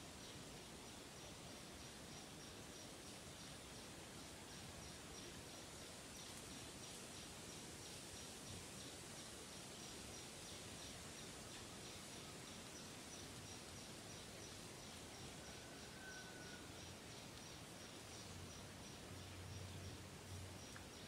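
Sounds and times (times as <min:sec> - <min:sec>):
insect chirping: 0:00.0 - 0:21.0
low steady hiss: 0:00.0 - 0:21.0.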